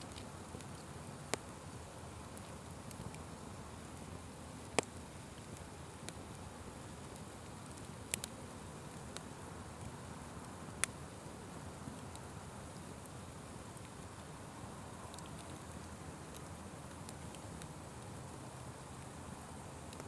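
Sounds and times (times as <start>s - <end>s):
fire popping: 0.0s - 20.0s
wood fire crackling: 0.0s - 20.0s.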